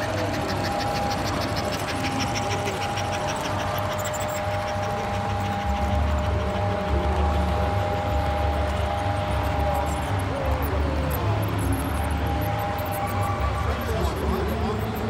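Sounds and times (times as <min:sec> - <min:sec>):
model train motor humming: 0:00.0 - 0:15.0
wheels clicking over rail joints: 0:00.0 - 0:15.0.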